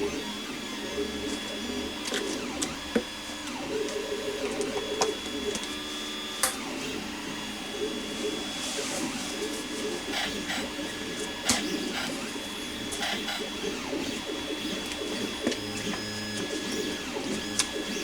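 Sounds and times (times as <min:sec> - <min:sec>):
small electric motor running: 0:00.0 - 0:18.0.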